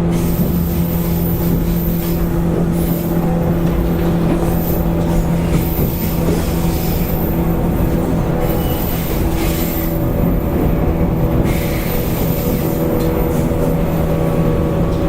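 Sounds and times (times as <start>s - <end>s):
train motor hum: 0.0s - 15.0s
wheel and rail rumble: 0.0s - 15.0s.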